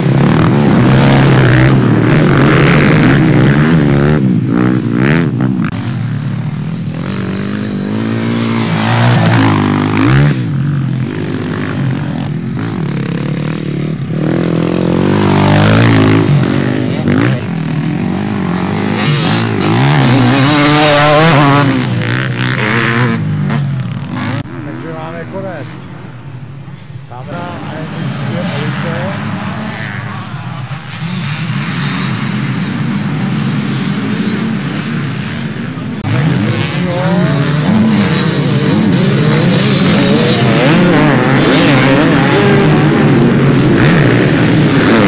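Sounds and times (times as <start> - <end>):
motocross bikes racing past: 0.0 - 45.0.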